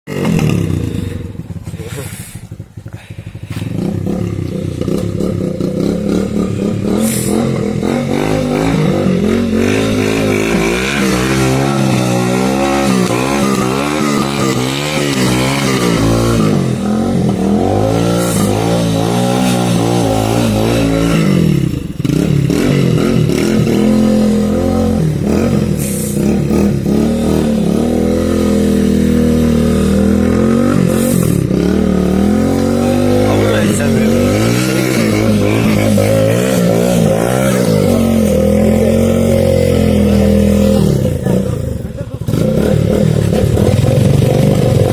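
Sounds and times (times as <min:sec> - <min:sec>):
off-road motorcycle engine revving: 0:00.0 - 0:44.9.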